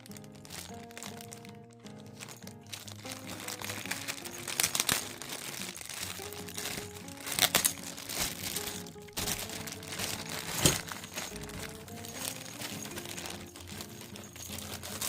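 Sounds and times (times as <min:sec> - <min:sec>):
plastic packaging crinkling: 0:00.0 - 0:15.0
soft background music: 0:00.0 - 0:15.0.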